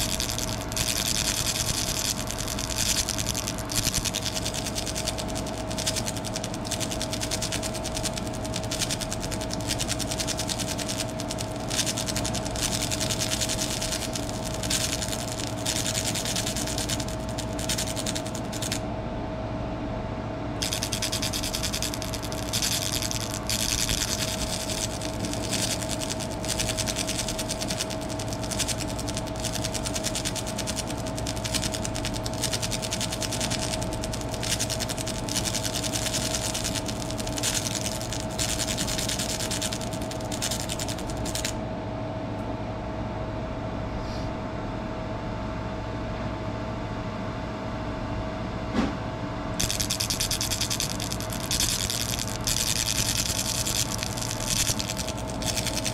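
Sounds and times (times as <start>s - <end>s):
laser engraver rasping buzz: 0.0s - 18.9s, 20.6s - 41.6s, 49.6s - 55.9s
steady hum with whine: 0.0s - 55.9s.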